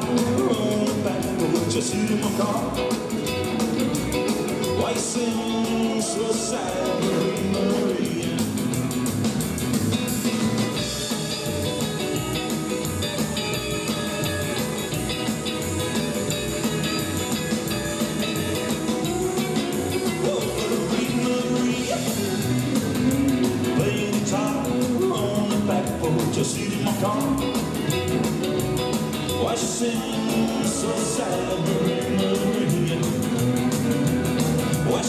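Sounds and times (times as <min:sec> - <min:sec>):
rockabilly music with singing: 0:00.0 - 0:35.0.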